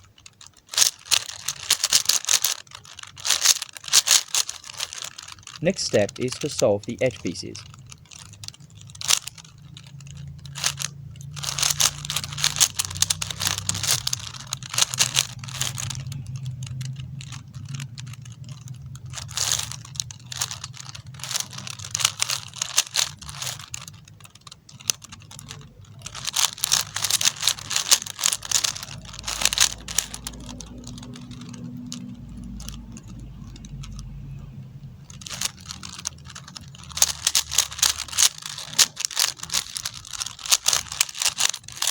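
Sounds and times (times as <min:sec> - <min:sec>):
plastic puzzle cube clicking: 0:00.0 - 0:41.9.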